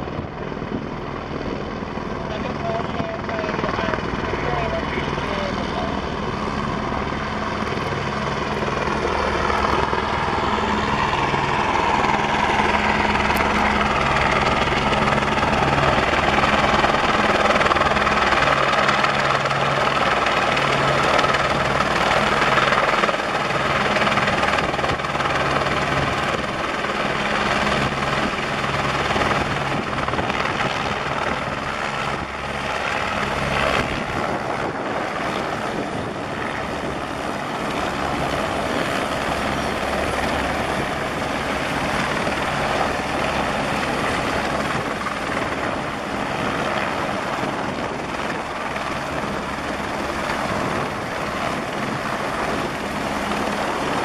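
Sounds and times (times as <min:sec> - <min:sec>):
helicopters hovering: 0:00.0 - 0:54.0.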